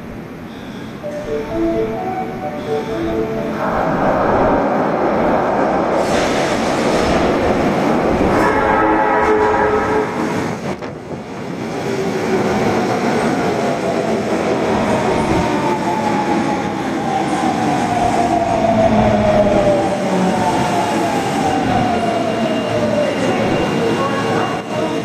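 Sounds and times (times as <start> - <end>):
subway wheel and running noise: 0.0 - 25.0.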